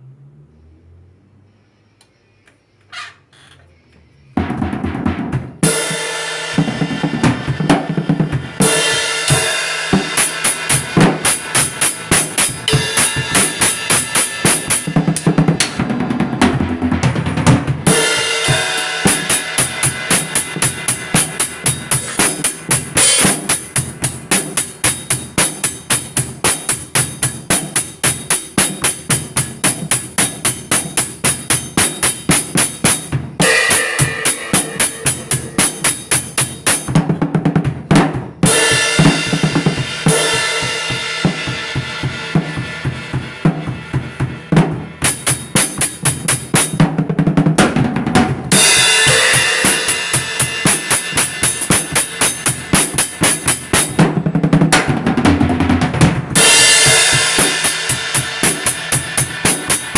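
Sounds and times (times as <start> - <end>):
music with fast drum beat: 4.4 - 59.9.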